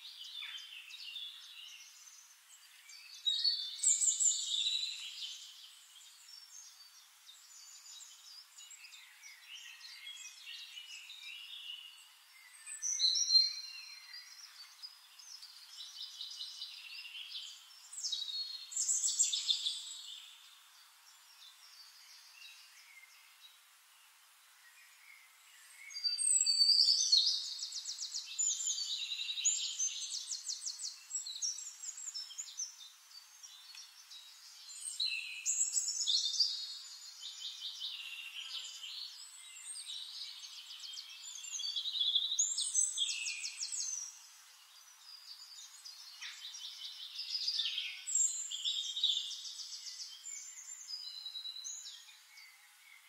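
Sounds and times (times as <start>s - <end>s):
songbirds trilling: 0.0s - 53.0s.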